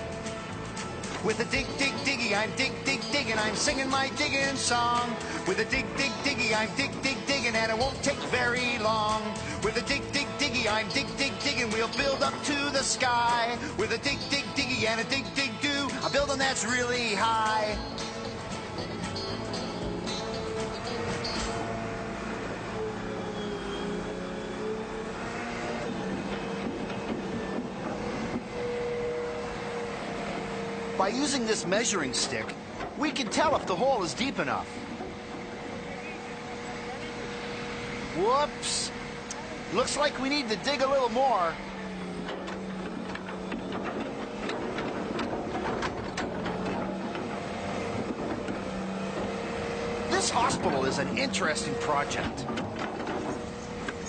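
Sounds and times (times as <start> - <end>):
bucket and arm clanking: 0.0 - 22.4, 25.8 - 54.0
excavator engine under load: 0.0 - 54.0.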